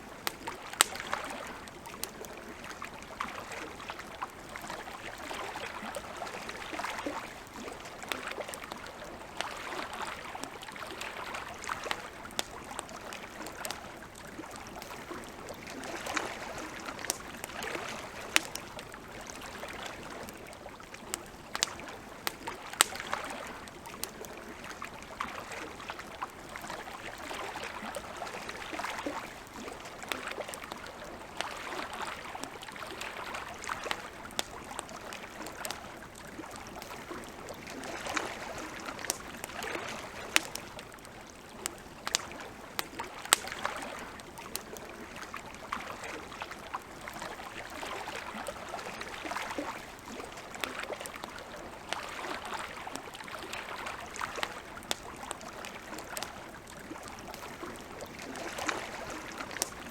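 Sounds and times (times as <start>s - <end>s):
campfire crackling: 0.0s - 59.9s
lake water lapping: 0.0s - 59.9s.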